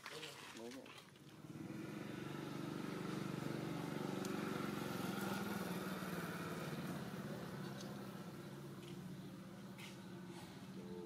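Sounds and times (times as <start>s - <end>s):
motorcycle engine running: 1.3s - 11.0s.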